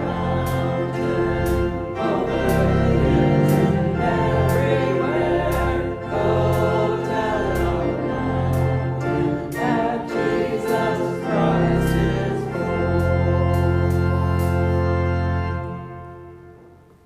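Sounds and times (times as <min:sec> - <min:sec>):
voices singing a hymn: 0:00.0 - 0:16.1
organ accompaniment: 0:00.0 - 0:17.0.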